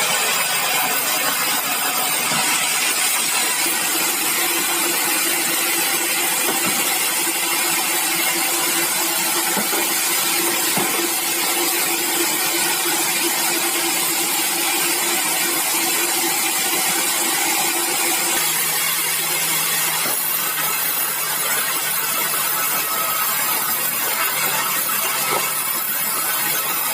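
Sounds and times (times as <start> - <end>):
sawmill saw hissing through wood: 0.0 - 26.9.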